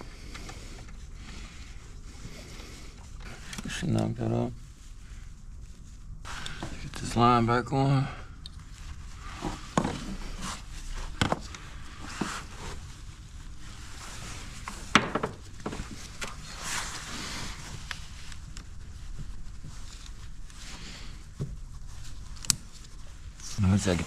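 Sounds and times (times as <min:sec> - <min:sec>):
rustling: 0:00.0 - 0:07.7, 0:08.3 - 0:24.0.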